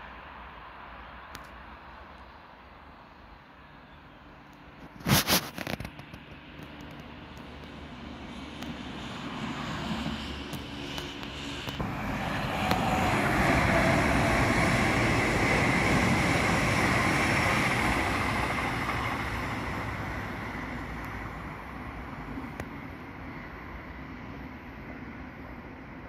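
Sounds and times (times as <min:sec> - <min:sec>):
train passing at speed: 0:00.0 - 0:05.2, 0:06.0 - 0:26.0.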